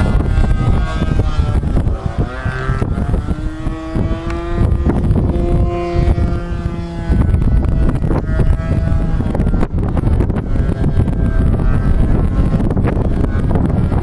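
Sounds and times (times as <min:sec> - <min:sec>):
model aircraft engine buzzing: 0:00.0 - 0:14.0
wind rumble on microphone: 0:00.0 - 0:14.0.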